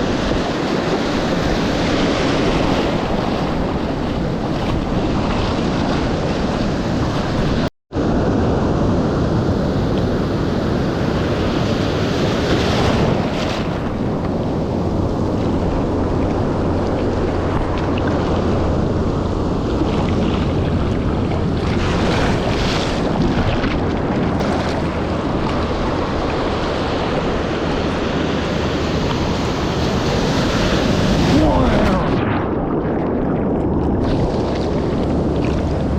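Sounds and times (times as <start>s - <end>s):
ocean surf: 0.0s - 35.9s
wind buffeting microphone: 0.0s - 35.9s.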